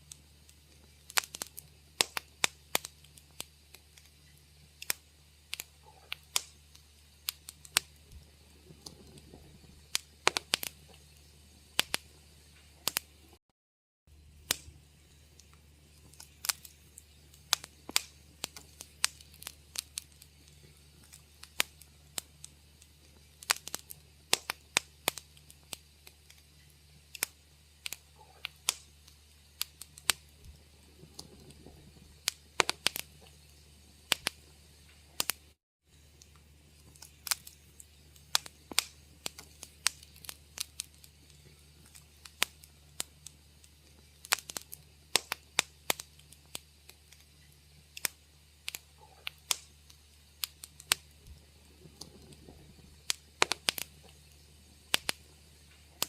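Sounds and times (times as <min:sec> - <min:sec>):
steady low hum: 0:00.0 - 0:13.4, 0:14.1 - 0:56.0
wood fire crackling: 0:00.0 - 0:13.4, 0:14.1 - 0:56.0.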